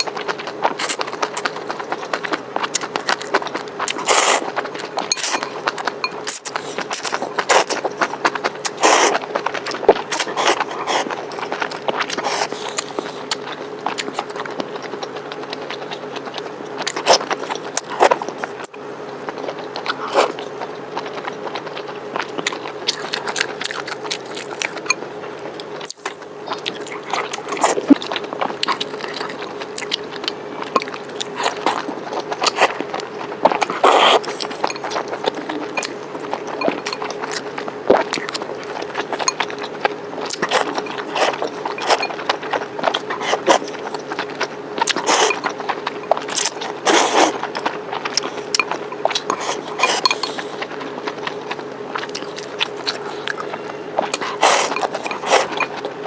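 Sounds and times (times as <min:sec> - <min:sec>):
chewing and crunching food: 0:00.0 - 0:56.0
faint hum: 0:00.0 - 0:56.0.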